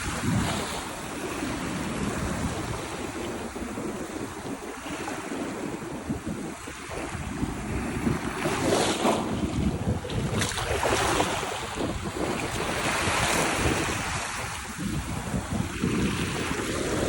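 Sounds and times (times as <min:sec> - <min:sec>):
waves breaking on beach: 0:00.0 - 0:17.0
wind buffeting microphone: 0:00.0 - 0:17.0.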